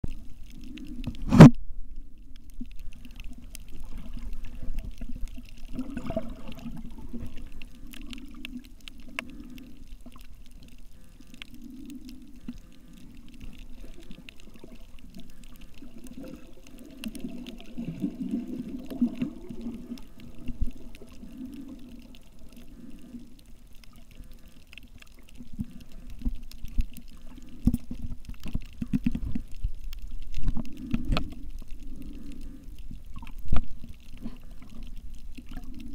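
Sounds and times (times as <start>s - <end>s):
muffled underwater sloshing: 0.0s - 35.9s
faint clicks: 0.1s - 35.9s.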